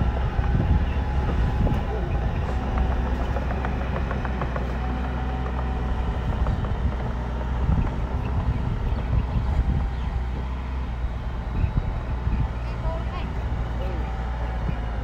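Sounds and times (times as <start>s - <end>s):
diesel engine running under load: 0.0s - 15.0s
faint engine knocks: 0.0s - 15.0s.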